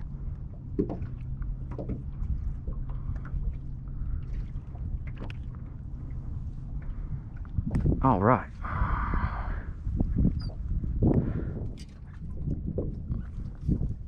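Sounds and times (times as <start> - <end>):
boat engine hum: 0.0 - 14.0.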